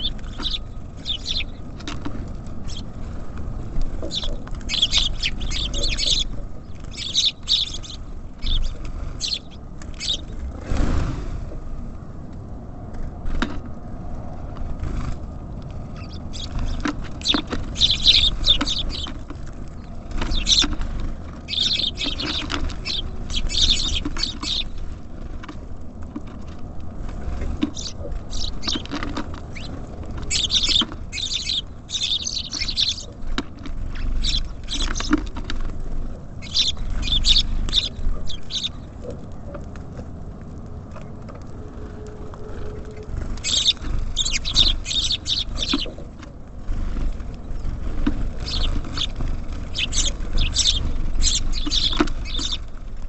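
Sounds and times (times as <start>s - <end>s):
small birds chirping: 0.0s - 10.5s, 15.8s - 25.5s, 27.2s - 39.7s, 42.8s - 53.0s
low steady rumble: 0.0s - 53.0s.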